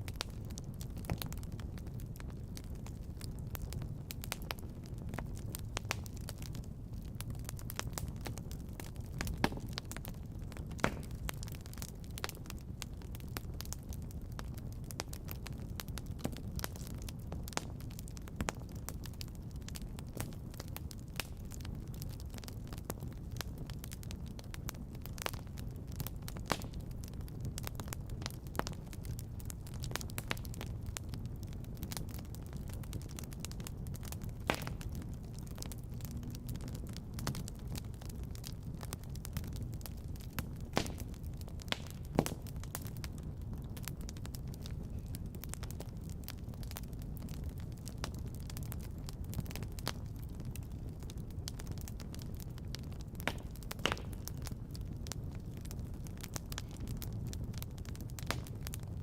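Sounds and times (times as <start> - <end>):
fire crackling: 0.0 - 59.0
fire low rumble: 0.0 - 59.0
loud fire pops: 0.0 - 59.0.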